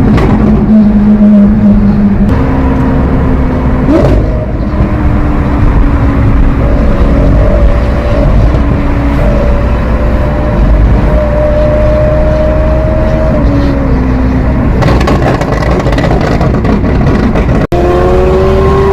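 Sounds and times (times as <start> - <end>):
loud car engine running: 0.0 - 18.9.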